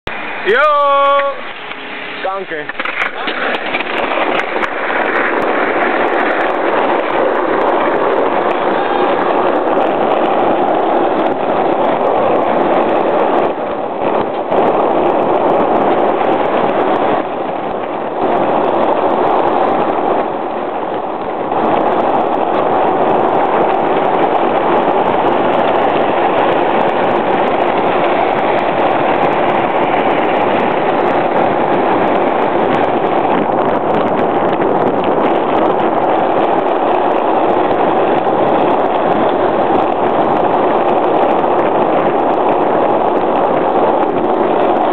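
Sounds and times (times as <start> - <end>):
skateboard wheels rolling on asphalt: 0.0 - 44.9.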